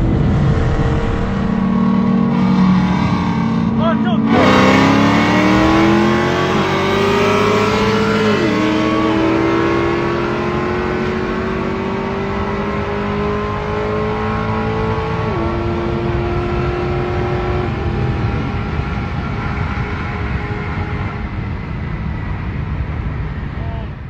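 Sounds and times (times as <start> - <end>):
car engine at full throttle: 0.0 - 24.0.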